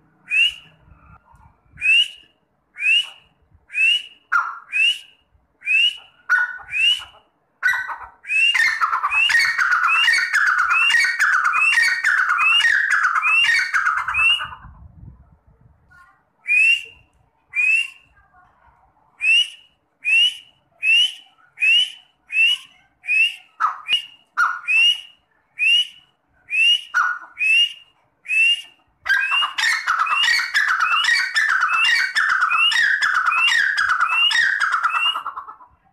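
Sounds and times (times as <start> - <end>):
bird whistled calls: 0.2 - 7.2, 7.8 - 14.7, 16.5 - 18.1, 19.2 - 35.4.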